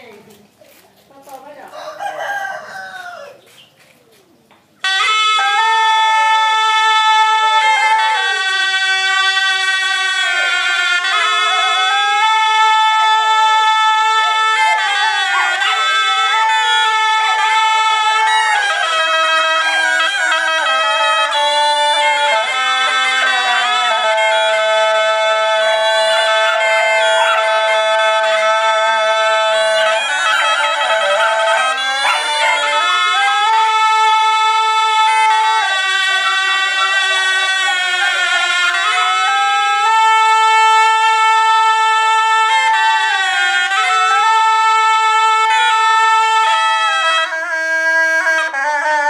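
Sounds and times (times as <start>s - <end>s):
double-reed shawms playing: 0.0s - 49.0s.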